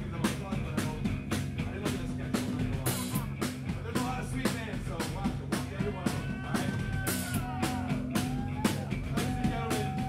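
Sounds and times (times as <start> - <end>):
bass guitar: 0.0 - 10.0
drum kit beat: 0.0 - 10.0.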